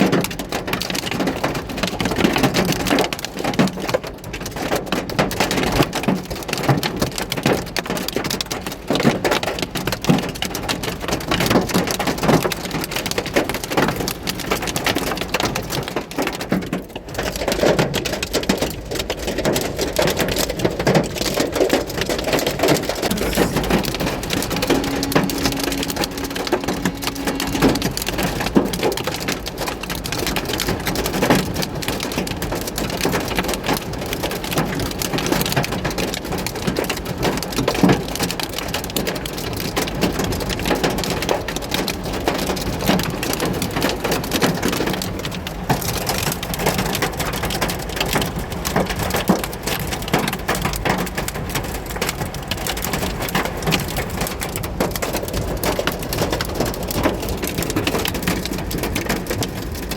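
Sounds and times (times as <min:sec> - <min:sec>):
hail and rain pelting a vehicle: 0:00.0 - 0:22.9, 0:29.7 - 0:59.9.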